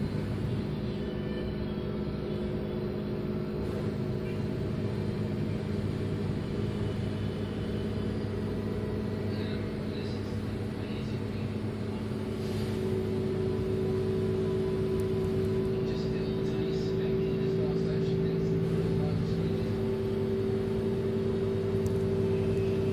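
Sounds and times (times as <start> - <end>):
washing machine motor hum: 0.0 - 22.9.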